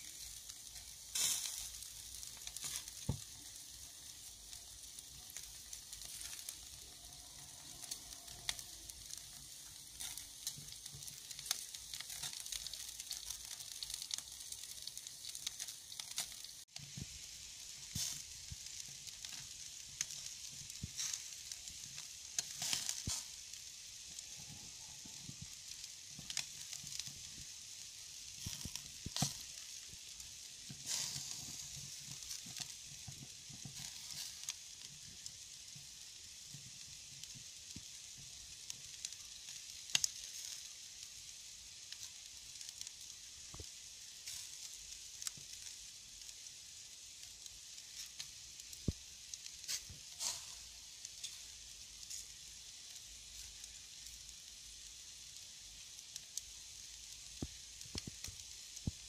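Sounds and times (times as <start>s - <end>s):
embers popping and crackling: 0.0s - 59.0s
meat skewers sizzling: 0.0s - 59.0s.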